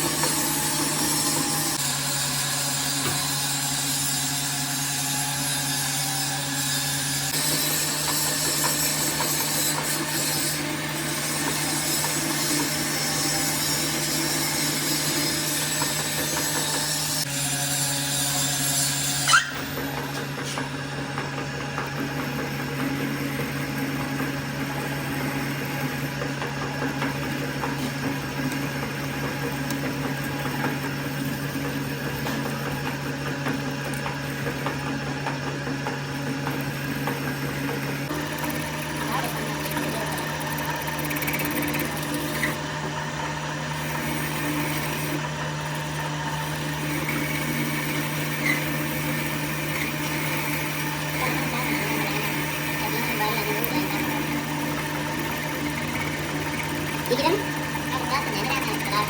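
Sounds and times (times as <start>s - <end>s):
machinery humming and grinding: 0.0s - 59.0s.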